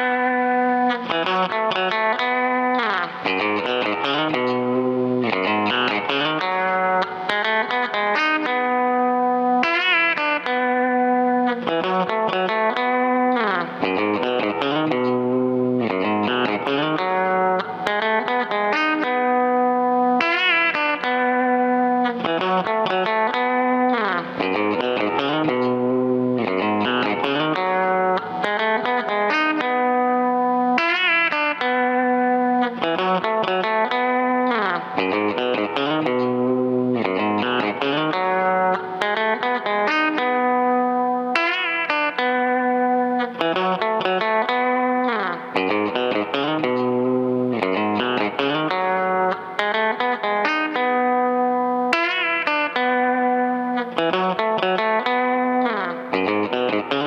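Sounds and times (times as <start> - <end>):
electric guitar notes and chords: 0.0 - 57.0.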